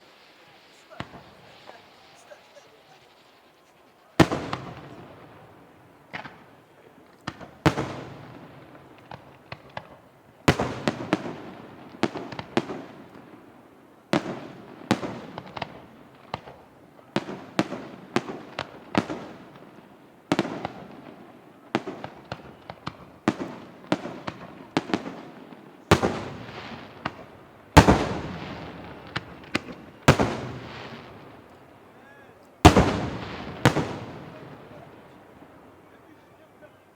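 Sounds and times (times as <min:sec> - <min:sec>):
firework shells booming: 0:00.0 - 0:36.1.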